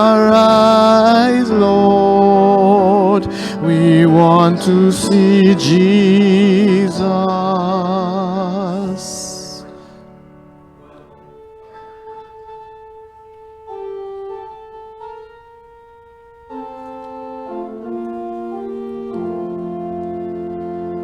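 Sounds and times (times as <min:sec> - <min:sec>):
keyboard sustained chords: 0:00.0 - 0:21.0.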